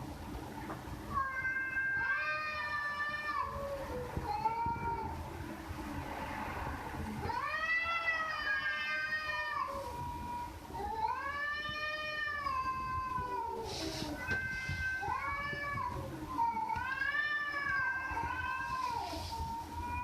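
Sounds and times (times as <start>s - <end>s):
cat meowing: 1.1s - 5.2s, 7.2s - 20.0s.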